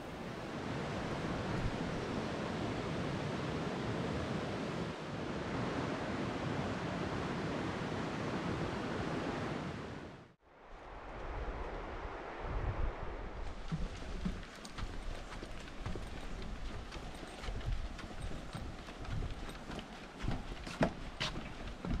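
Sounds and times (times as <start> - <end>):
wind on microphone: 0.0 - 9.8, 10.7 - 19.6
fast-flowing river rushing: 0.0 - 10.2, 13.5 - 22.0.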